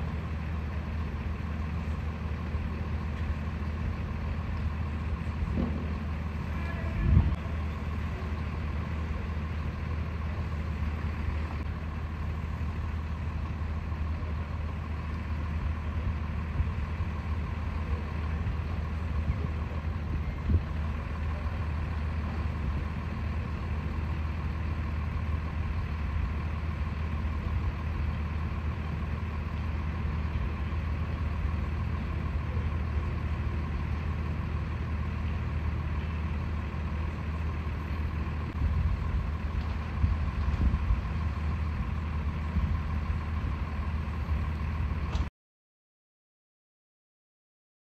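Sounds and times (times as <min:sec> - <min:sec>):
engine idling hum: 0:00.0 - 0:45.3.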